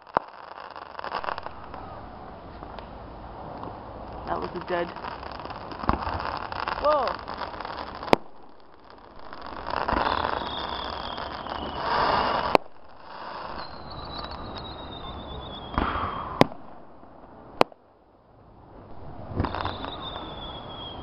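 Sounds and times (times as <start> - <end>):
firework whistle and rush: 0.0 - 2.5, 4.0 - 17.3, 18.7 - 21.0
fireworks bangs: 0.0 - 2.9, 3.5 - 17.8, 18.8 - 21.0.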